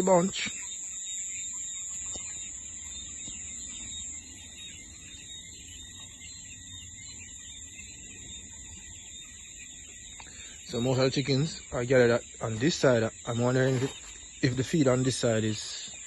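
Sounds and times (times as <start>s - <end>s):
cricket chirps: 0.0s - 16.0s
crickets trilling: 0.0s - 16.0s.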